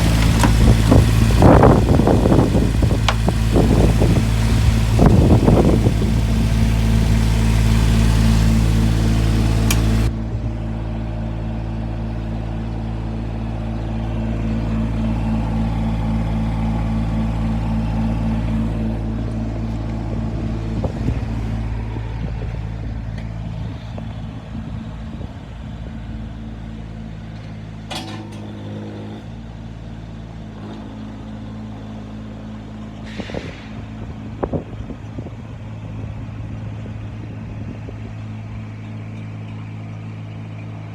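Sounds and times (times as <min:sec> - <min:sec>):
small diesel engine running: 0:00.0 - 0:40.9.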